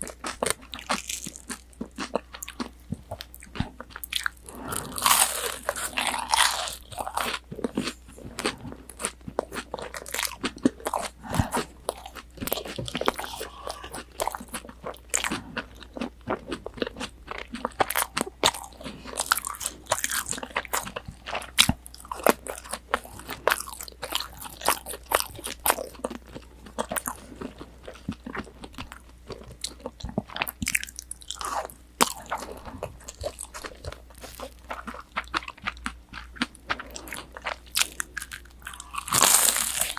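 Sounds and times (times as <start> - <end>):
crunchy chewing of fried cutlet: 0.0 - 39.9.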